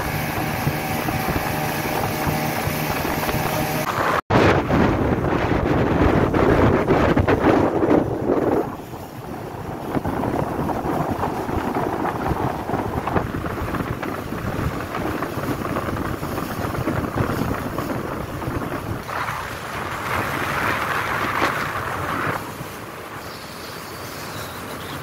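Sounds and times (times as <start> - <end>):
wind buffeting microphone: 0.0 - 23.4
water rushing past boat: 0.0 - 25.0.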